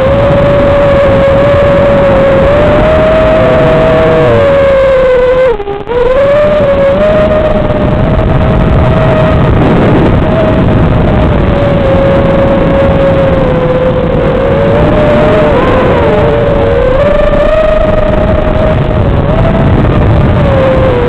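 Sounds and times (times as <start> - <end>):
drone motors whining: 0.0 - 21.0
heavy rushing noise: 0.0 - 21.0.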